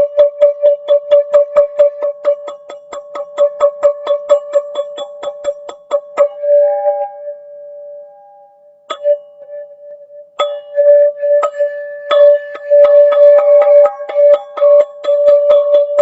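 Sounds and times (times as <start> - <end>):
metal percussion ringing: 0.0 - 9.7, 10.4 - 16.0.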